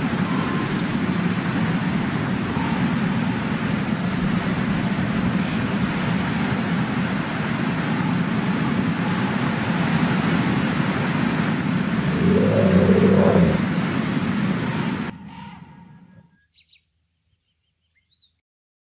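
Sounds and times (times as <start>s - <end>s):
low rumbling noise: 0.0s - 16.4s.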